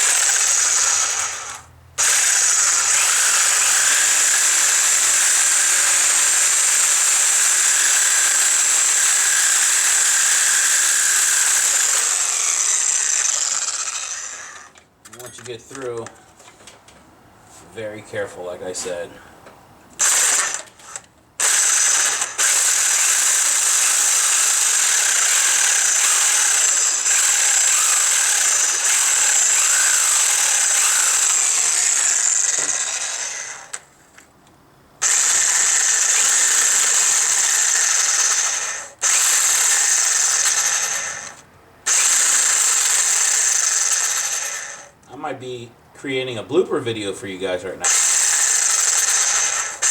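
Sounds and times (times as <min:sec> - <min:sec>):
reciprocating saw cutting metal: 0:00.0 - 0:14.8, 0:20.0 - 0:33.8, 0:35.0 - 0:45.0, 0:47.8 - 0:49.9.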